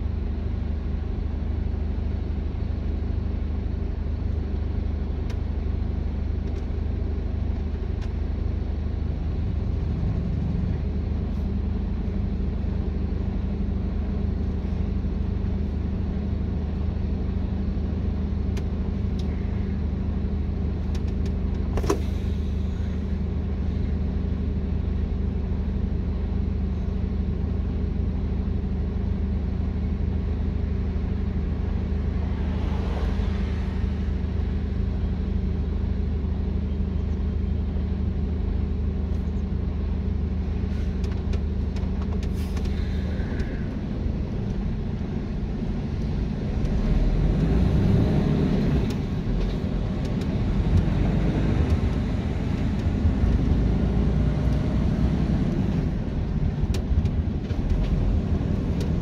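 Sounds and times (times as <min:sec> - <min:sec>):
road noise: 0:00.0 - 0:59.0
truck engine drone: 0:00.0 - 0:59.0.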